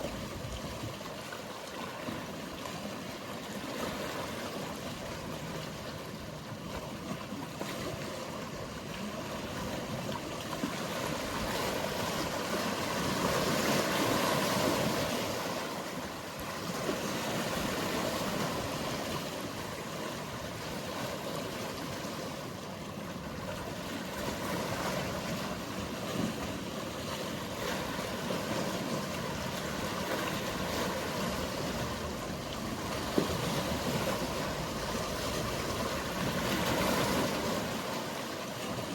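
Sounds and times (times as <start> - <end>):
sea waves washing: 0.0 - 38.9.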